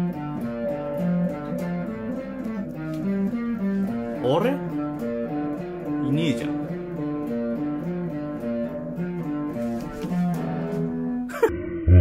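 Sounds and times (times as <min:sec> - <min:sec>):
guitar melody: 0:00.0 - 0:11.4.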